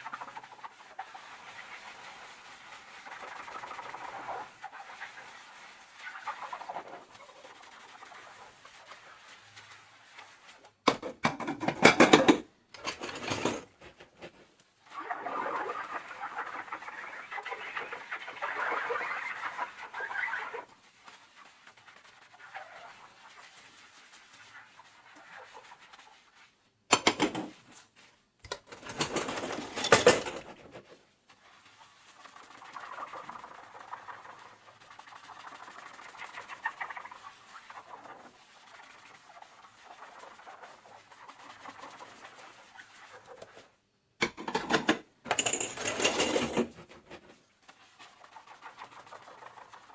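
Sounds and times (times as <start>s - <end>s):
sponge scrubbing dishes: 0.0s - 49.9s.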